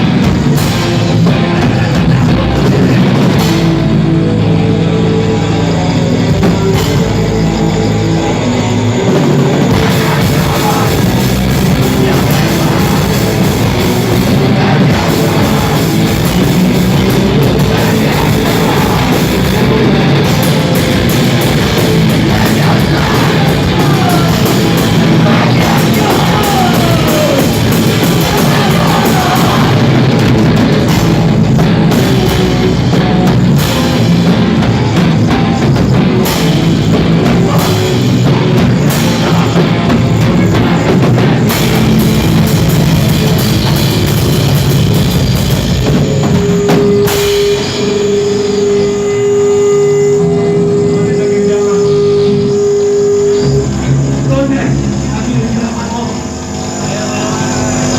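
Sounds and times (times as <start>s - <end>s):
drum kit beat: 0.0s - 54.3s
loud rock music: 0.0s - 57.9s.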